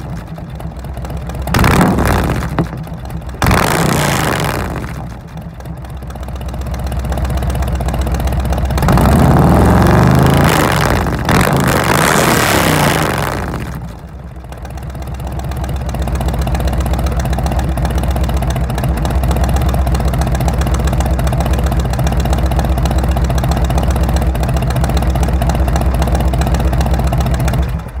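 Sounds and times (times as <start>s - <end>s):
motorcycle engine idling: 0.0s - 11.8s, 12.7s - 28.0s
motorcycle engine revving: 0.0s - 28.0s.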